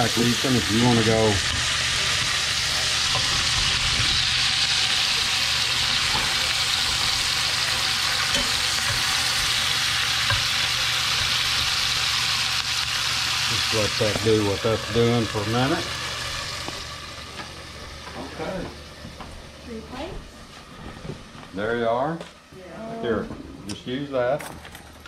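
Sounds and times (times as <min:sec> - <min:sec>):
meat and onions sizzling in oil: 0:00.0 - 0:20.5.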